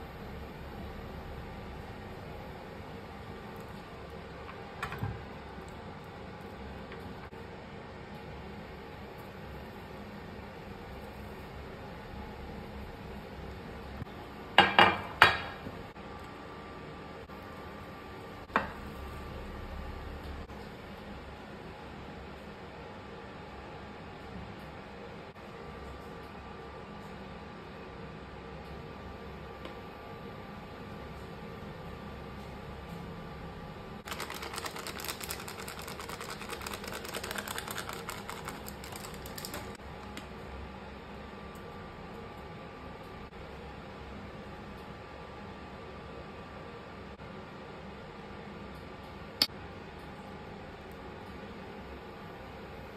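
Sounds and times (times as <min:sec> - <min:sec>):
steady background hum: 0:00.0 - 0:52.9.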